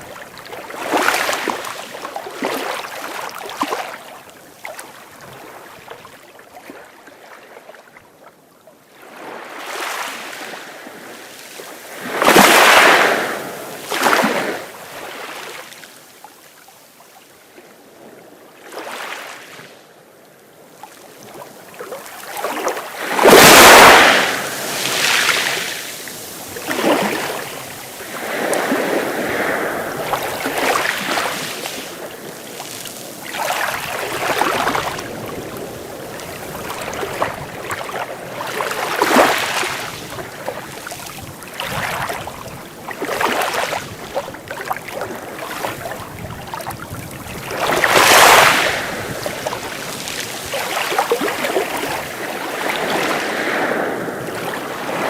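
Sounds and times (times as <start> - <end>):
sea waves breaking on shore: 0.0 - 7.8, 8.9 - 19.8, 20.5 - 55.0.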